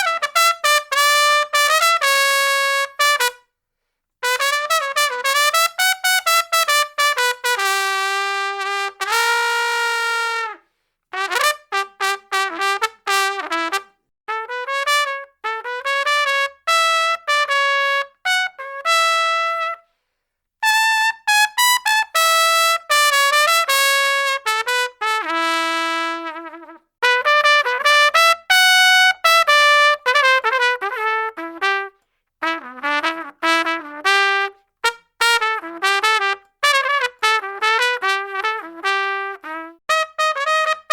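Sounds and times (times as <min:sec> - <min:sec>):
solo brass horn playing: 0:00.0 - 0:03.5, 0:04.2 - 0:19.9, 0:20.6 - 0:40.9.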